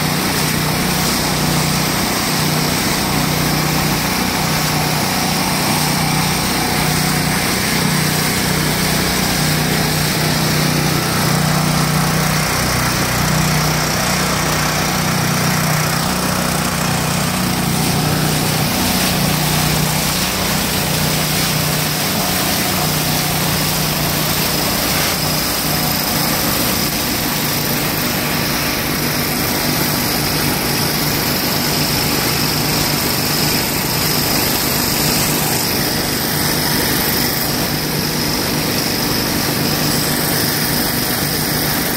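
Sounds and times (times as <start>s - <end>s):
muddy water gushing and splashing: 0.0s - 41.9s
small engine running steadily: 0.0s - 41.9s.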